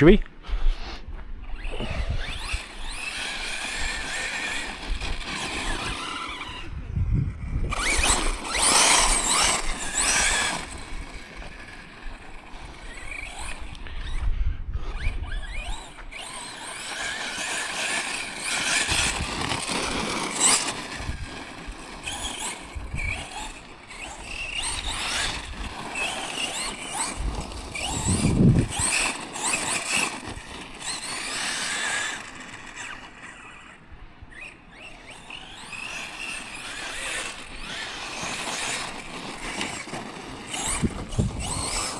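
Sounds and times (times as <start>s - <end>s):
electric toy truck motor whine: 0.6s - 41.9s.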